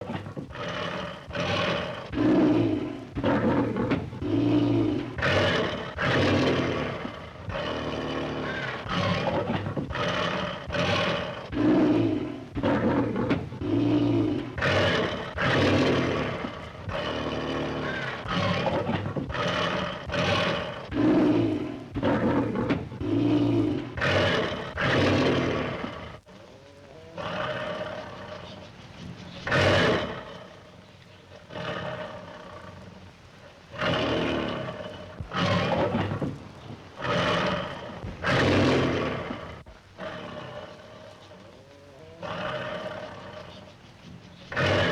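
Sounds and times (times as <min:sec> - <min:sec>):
lions roaring: 0:00.0 - 0:30.7, 0:31.3 - 0:44.9.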